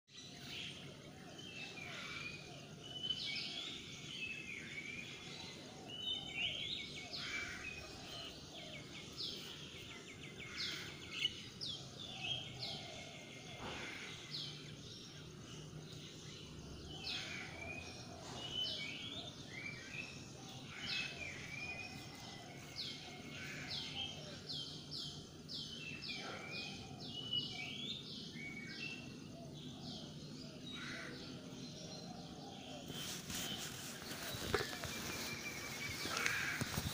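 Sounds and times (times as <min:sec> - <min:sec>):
birds chirping: 0:00.1 - 0:36.9.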